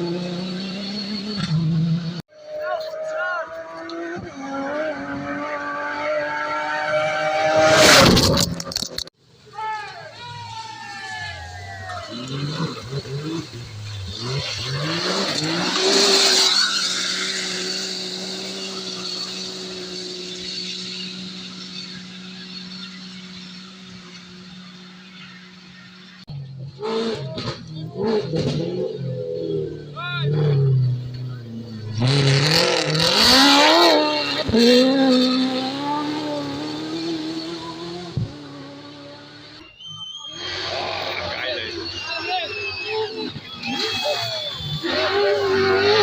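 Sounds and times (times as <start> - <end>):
rally car engine: 0.0 - 46.0.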